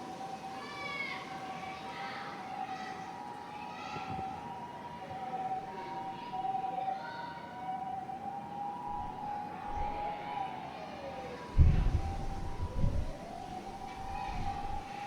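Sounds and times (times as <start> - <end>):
two-tone emergency siren: 0.0 - 15.0.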